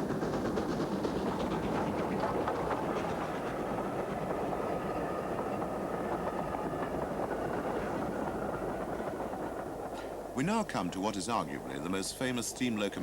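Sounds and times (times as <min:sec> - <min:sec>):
steam train rumbling: 0:00.0 - 0:13.0
wheels clicking over rail joints: 0:00.0 - 0:13.0.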